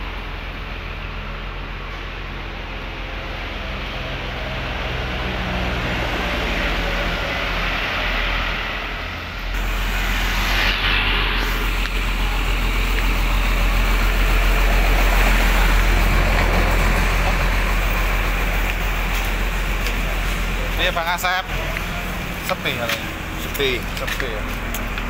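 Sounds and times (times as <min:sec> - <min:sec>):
diesel bus engine idling: 0:00.0 - 0:25.0
trucks driving past: 0:00.0 - 0:25.0.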